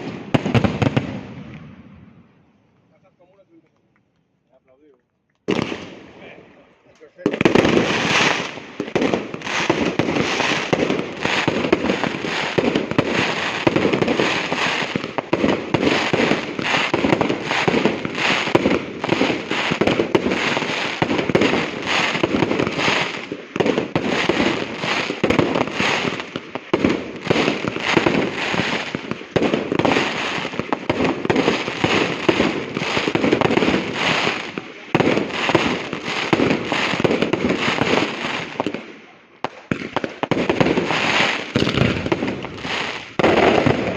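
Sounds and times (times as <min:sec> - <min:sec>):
fireworks bangs and crackles: 0:00.0 - 0:02.3, 0:05.4 - 0:06.4, 0:07.0 - 0:43.9.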